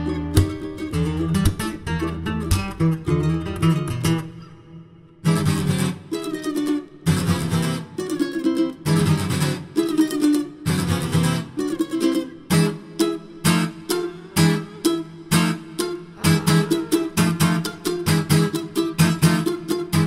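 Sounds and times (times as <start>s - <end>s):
acoustic guitar strumming: 0.0s - 8.1s, 8.8s - 20.0s
ukulele strumming: 0.0s - 20.0s.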